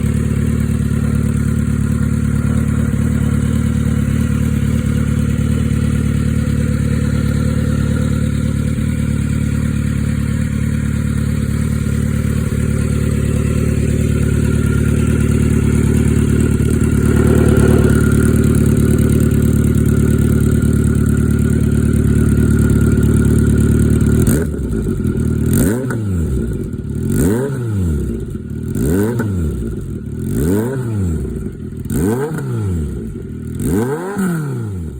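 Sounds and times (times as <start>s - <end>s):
motorcycle engine idling: 0.0s - 34.0s
motorcycle engine revving: 0.0s - 34.9s.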